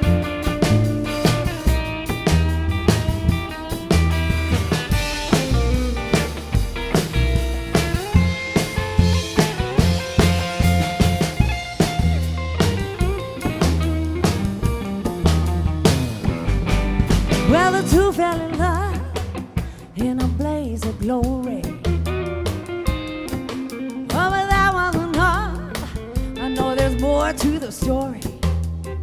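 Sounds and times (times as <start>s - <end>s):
bass guitar: 0.0s - 29.0s
drum kit beat: 0.0s - 29.0s
electric guitar: 0.0s - 29.0s.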